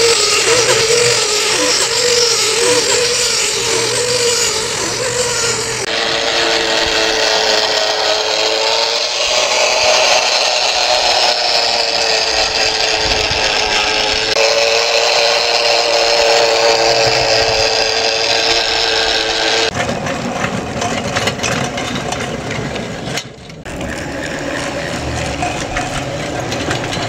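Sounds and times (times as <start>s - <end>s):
model tram motor whine: 0.0s - 27.0s
wheel-on-rail noise: 0.0s - 27.0s.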